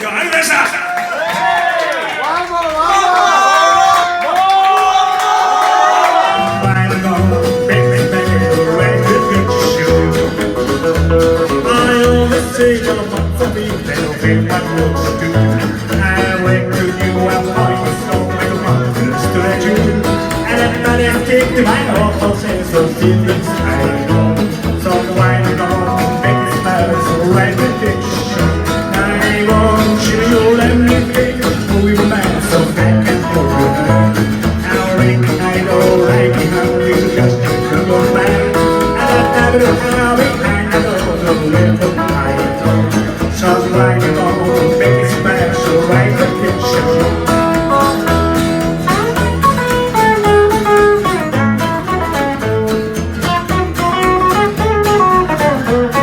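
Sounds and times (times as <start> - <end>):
electric guitars: 6.0 - 56.0
bass guitar: 6.2 - 56.0
drums keeping a steady beat: 6.5 - 56.0.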